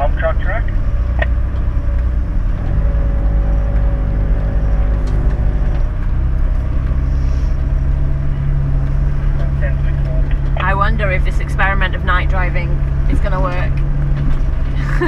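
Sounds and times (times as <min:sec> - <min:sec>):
diesel engine from inside cabin: 0:00.0 - 0:15.0.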